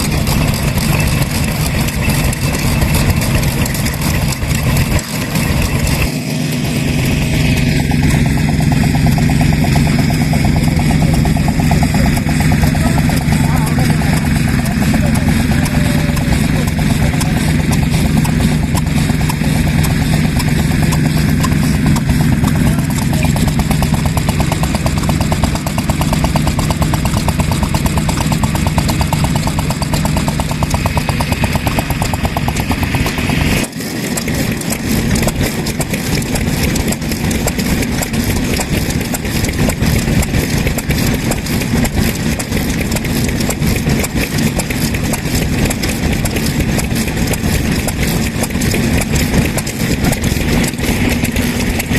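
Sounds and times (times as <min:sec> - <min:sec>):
stationary engine running: 0:00.0 - 0:51.9.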